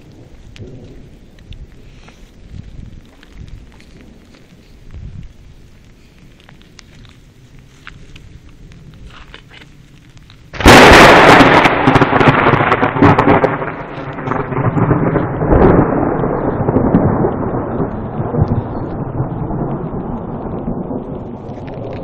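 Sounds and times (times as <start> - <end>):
thunder crack and rumble: 0.0 - 6.8, 8.1 - 22.0.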